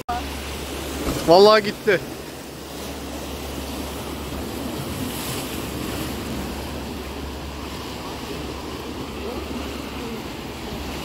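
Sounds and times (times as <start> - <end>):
sea waves washing against rocks: 0.1 - 11.0.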